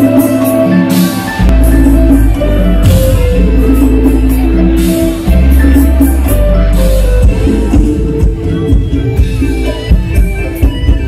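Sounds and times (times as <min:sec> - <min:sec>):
drum kit: 0:00.0 - 0:11.0
keyboard melody: 0:00.0 - 0:11.0
bass line: 0:01.3 - 0:11.0.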